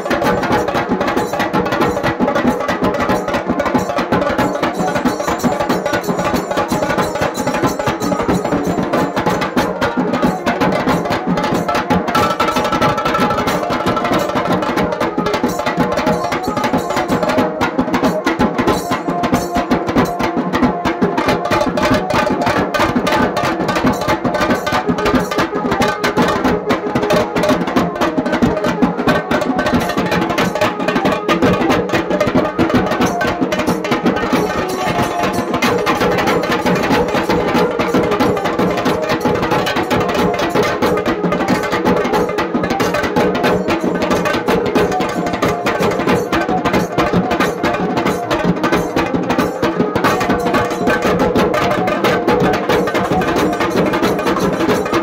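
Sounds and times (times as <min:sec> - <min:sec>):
drums beaten with sticks: 0:00.0 - 0:55.0.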